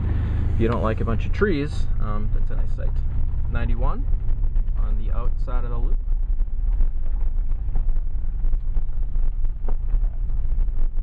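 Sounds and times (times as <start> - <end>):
engine and road rumble: 0.0 - 11.0
wind buffeting microphone: 0.0 - 11.0.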